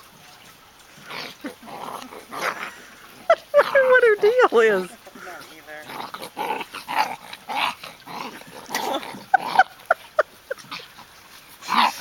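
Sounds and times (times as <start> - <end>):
dogs playing roughly: 0.9 - 12.0.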